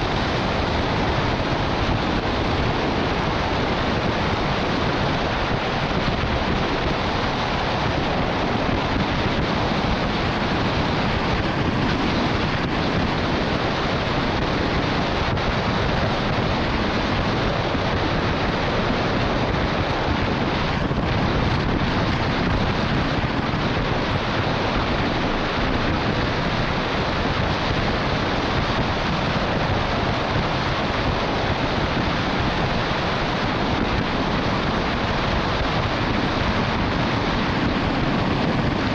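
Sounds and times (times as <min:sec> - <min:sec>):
truck tyres on wet road: 0:00.0 - 0:38.9
wind rushing: 0:00.0 - 0:38.9.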